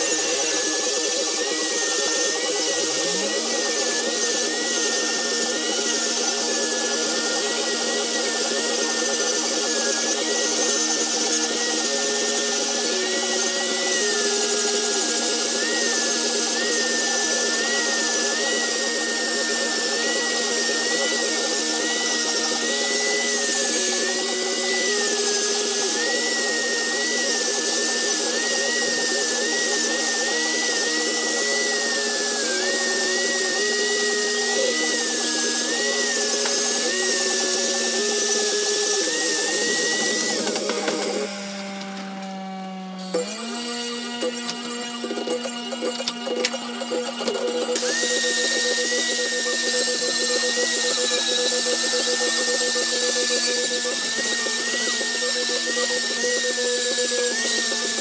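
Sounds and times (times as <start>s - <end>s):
angle grinder grinding metal: 0.0s - 58.0s.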